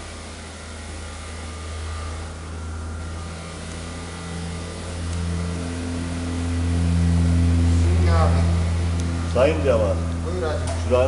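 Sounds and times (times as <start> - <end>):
low motor hum: 0.0 - 11.0
steady tones: 0.0 - 11.0.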